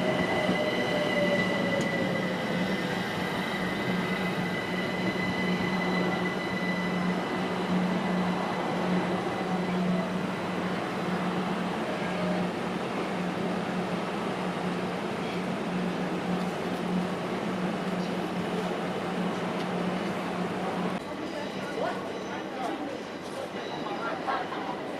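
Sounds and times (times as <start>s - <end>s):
train humming and rumbling: 0.0s - 24.9s.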